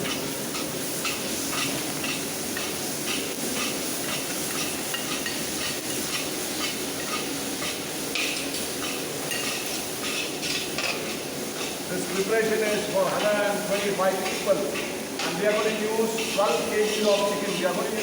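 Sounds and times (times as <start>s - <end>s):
onions sizzling in oil: 0.0s - 18.0s
stirring scrapes: 3.1s - 17.7s.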